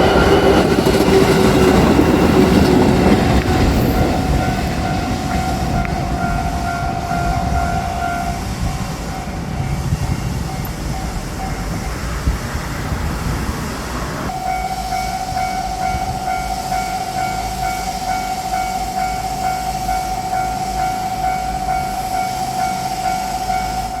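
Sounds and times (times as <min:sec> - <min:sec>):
electric train rumbling over rails: 0:00.0 - 0:24.0
level-crossing bell ringing: 0:01.6 - 0:12.1, 0:14.3 - 0:24.0.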